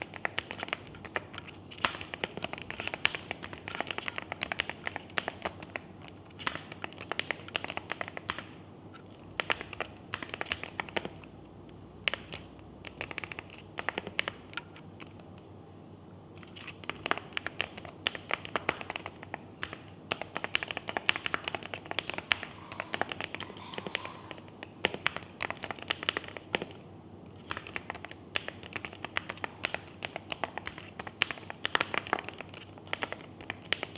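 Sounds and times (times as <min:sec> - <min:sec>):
mechanical keyboard typing: 0:00.0 - 0:08.6, 0:09.3 - 0:11.3, 0:12.0 - 0:15.4, 0:16.4 - 0:33.9.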